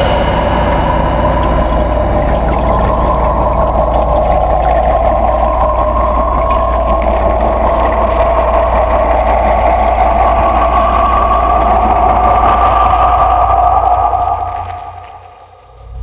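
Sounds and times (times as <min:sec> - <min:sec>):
constant low hum: 0:00.0 - 0:16.0
mechanical hum with rising tones: 0:00.0 - 0:16.0.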